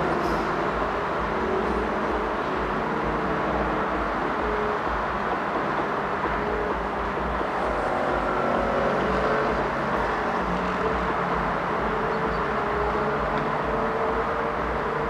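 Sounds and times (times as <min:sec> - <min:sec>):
steady engine noise: 0:00.0 - 0:15.0.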